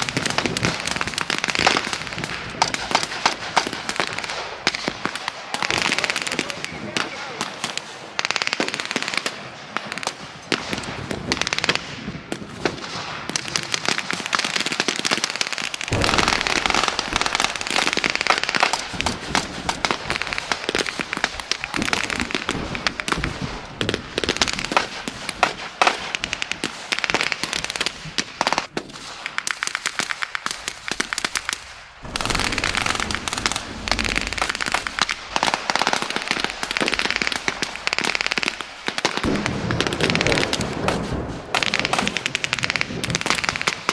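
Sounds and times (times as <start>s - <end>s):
rifles and machine guns firing: 8.6s - 43.9s.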